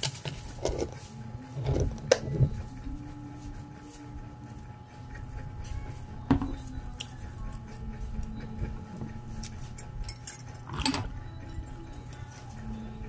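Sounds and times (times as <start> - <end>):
low hum: 0.4 - 13.0.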